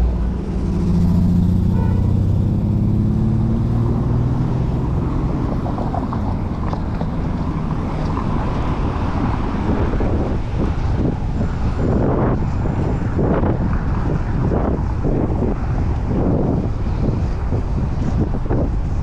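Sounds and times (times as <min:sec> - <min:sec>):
motor vehicle engine drone: 0:00.0 - 0:19.0
wind and road noise: 0:00.0 - 0:19.0.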